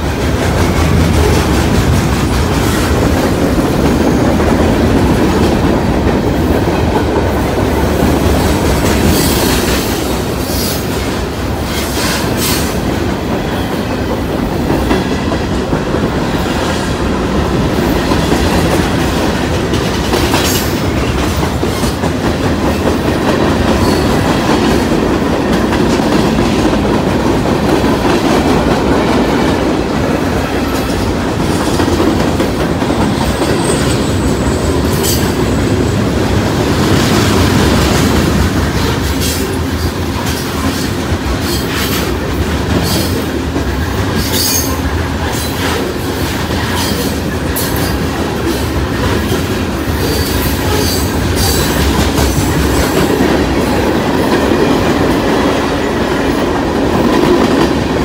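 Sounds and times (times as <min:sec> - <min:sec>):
clickety-clack over rail joints: 0:00.0 - 0:58.0
train wheels rumbling on rail: 0:00.0 - 0:58.0.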